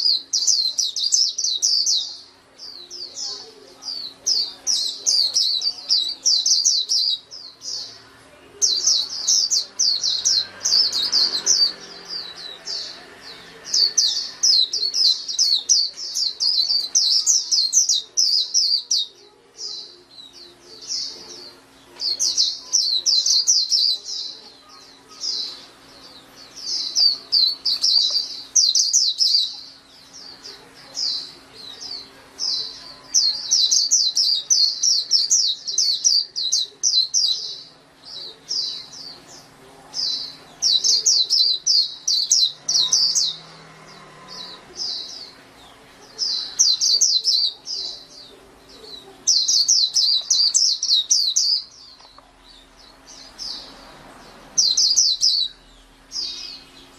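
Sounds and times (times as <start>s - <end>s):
bird twittering song: 0.0s - 56.9s.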